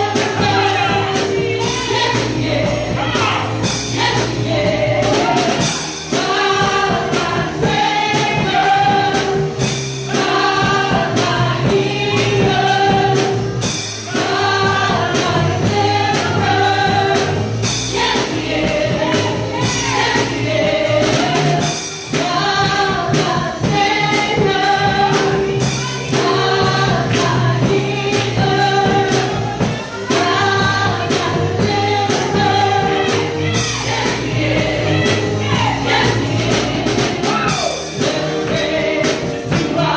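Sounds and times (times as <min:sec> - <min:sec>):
band accompaniment: 0:00.0 - 0:39.9
choir singing gospel music: 0:00.0 - 0:39.9.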